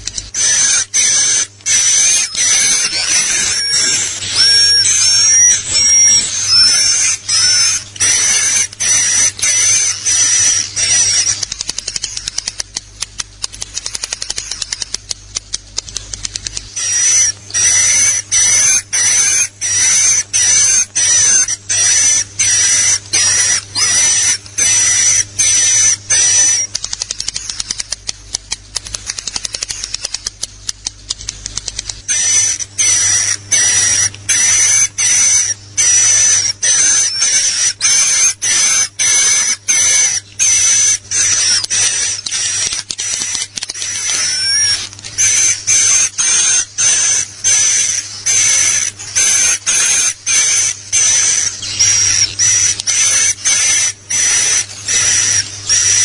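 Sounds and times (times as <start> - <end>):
clicking bird twitter: 0.0 - 56.0
high bird chirps with whistle: 0.4 - 12.4, 16.8 - 27.6, 32.1 - 56.0.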